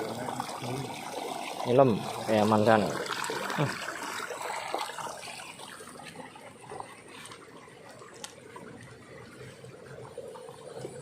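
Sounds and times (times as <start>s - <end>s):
water flowing in a ditch: 0.0s - 11.0s.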